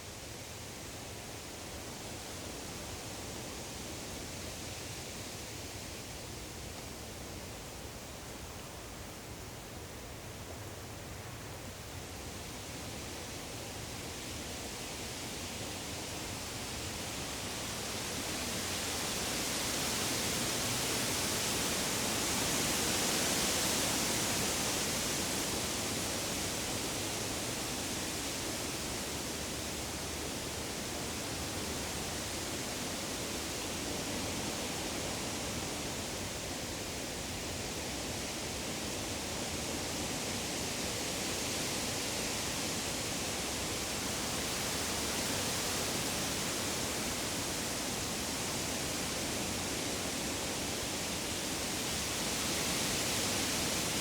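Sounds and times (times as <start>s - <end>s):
woodland rushing hiss: 0.0s - 54.0s.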